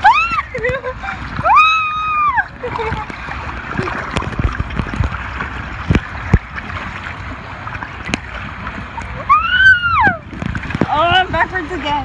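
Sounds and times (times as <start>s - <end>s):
water rushing and splashing: 0.0s - 12.0s.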